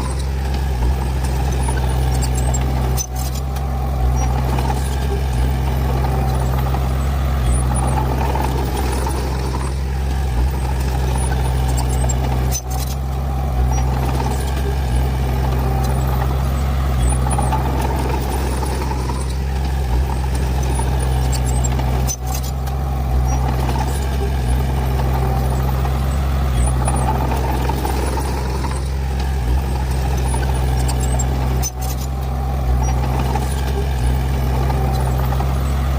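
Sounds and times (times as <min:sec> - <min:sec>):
heavy diesel machinery droning: 0:00.0 - 0:35.9.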